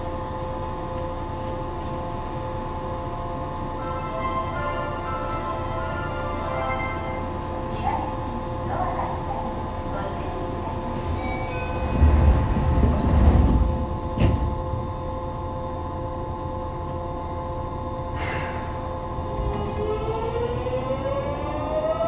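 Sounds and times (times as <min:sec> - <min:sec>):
train equipment humming: 0:00.0 - 0:22.0.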